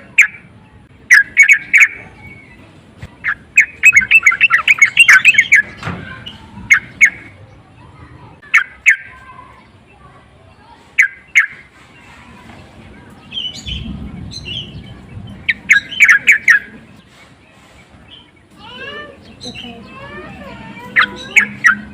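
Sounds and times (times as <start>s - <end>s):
bird chattering song: 0.0s - 21.9s.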